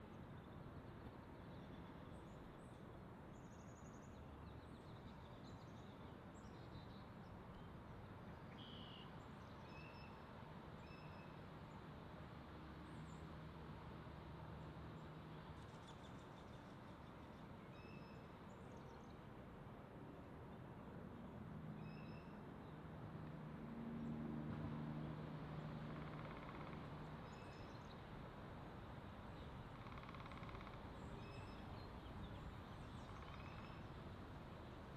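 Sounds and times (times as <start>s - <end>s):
steady outdoor hiss: 0.0s - 34.9s.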